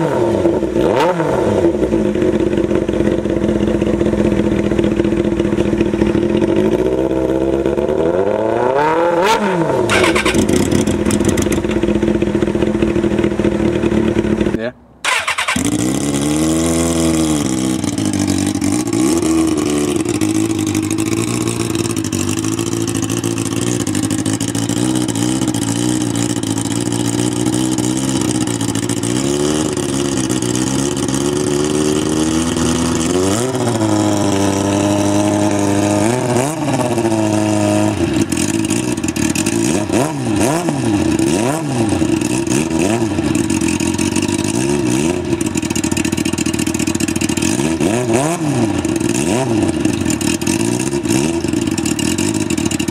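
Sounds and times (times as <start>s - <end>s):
motorcycle engine revving and idling: 0.0s - 52.9s.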